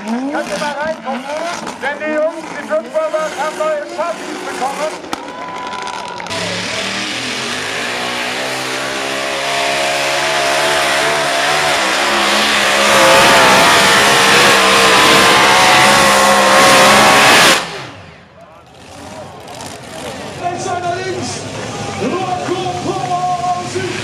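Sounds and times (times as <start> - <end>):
racing car engine revving: 0.0 - 24.0.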